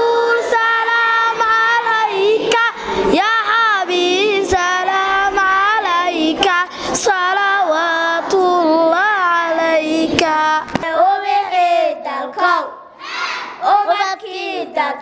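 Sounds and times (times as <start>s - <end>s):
children singing into a microphone: 0.0s - 15.0s.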